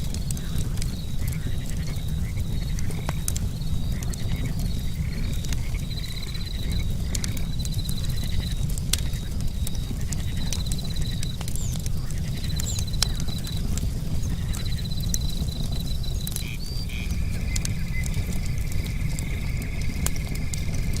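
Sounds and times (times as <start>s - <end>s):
campfire crackling and popping: 0.0s - 21.0s
crickets chirping: 0.0s - 21.0s
low steady insect trill: 0.0s - 21.0s.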